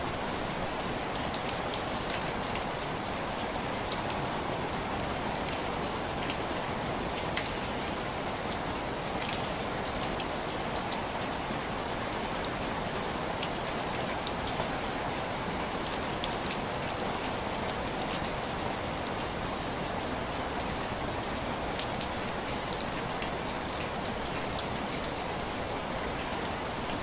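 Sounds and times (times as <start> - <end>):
rain pattering on window glass: 0.0 - 27.0.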